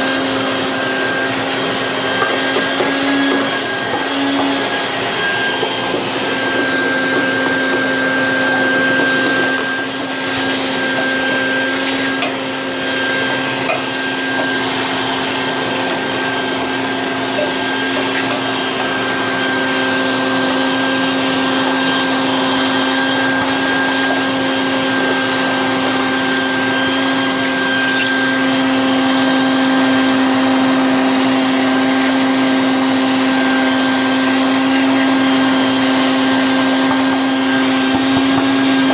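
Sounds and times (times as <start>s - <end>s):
small electric motor whining: 0.0s - 38.9s.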